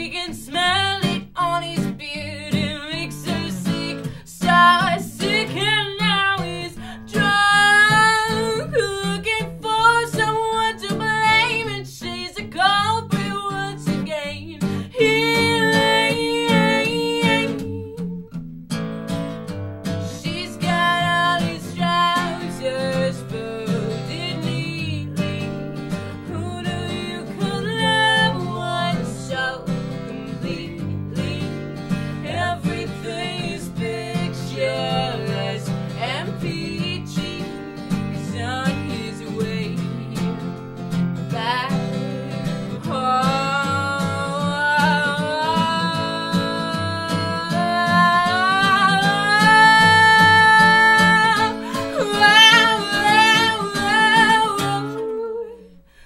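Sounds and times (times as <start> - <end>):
woman singing: 0.0 - 18.4, 19.8 - 56.0
acoustic guitar: 0.0 - 56.0.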